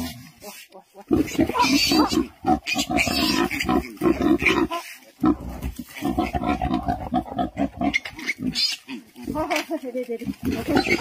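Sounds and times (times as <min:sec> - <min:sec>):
pig grunting: 0:01.0 - 0:09.5, 0:10.2 - 0:11.0.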